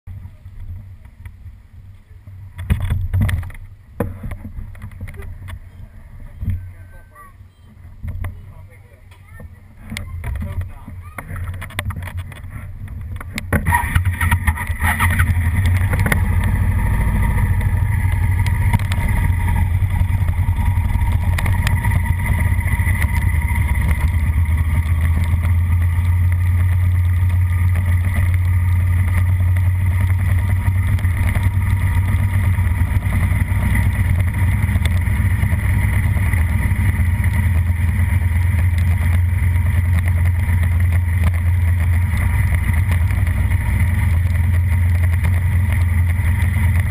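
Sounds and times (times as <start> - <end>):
motorcycle engine running: 0.1 - 46.9.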